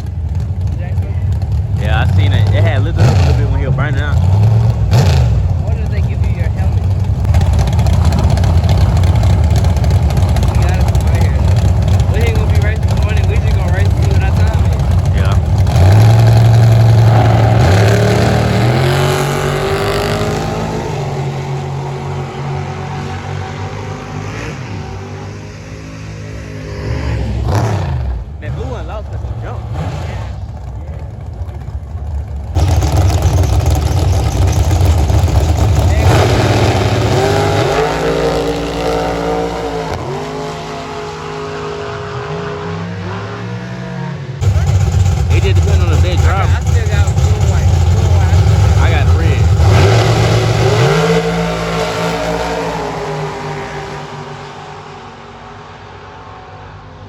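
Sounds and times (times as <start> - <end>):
drag racing car accelerating: 0.0 - 57.0.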